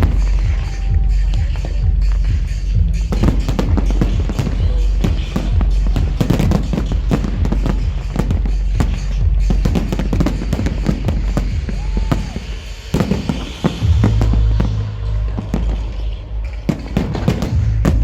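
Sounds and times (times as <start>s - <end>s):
deep steady bass note: 0.0s - 12.4s, 13.8s - 18.0s
dance music with heavy bass: 0.0s - 18.0s
fireworks bangs: 0.0s - 18.0s.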